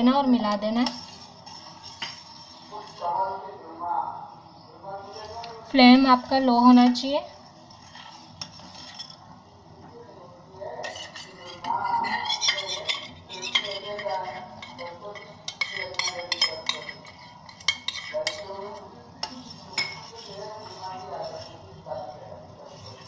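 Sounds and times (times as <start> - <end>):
metal spoon stirring in saucepan: 0.0 - 3.6, 5.0 - 9.6, 10.7 - 23.0.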